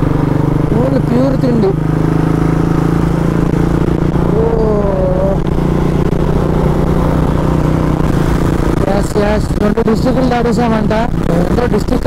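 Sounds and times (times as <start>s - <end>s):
motorcycle engine running: 0.0s - 12.0s
road and wind rumble: 0.0s - 12.0s.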